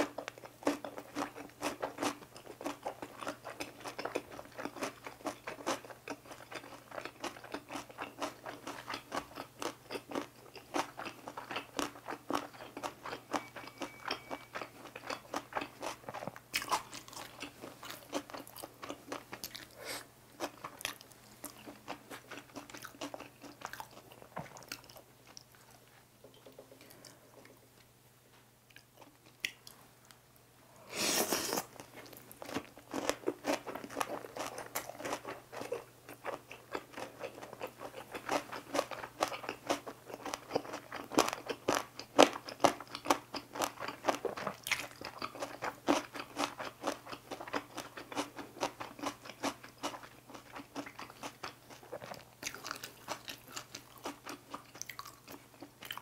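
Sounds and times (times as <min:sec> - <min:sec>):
crunchy chewing: 0:00.0 - 0:26.0, 0:30.9 - 0:56.0.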